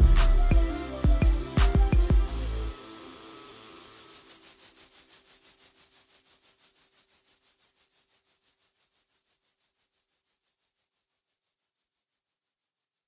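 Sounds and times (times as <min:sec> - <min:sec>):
fast pulsing hiss: 0:00.2 - 0:10.8.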